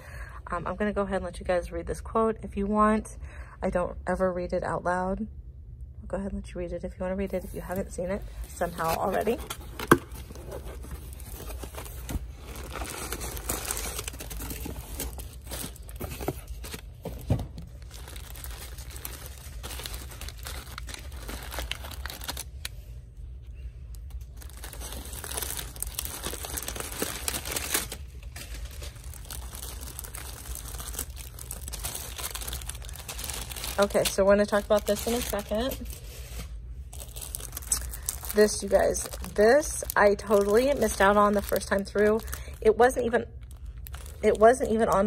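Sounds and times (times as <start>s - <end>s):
paper and plastic wrap crinkling: 7.3s - 22.9s, 23.9s - 45.0s.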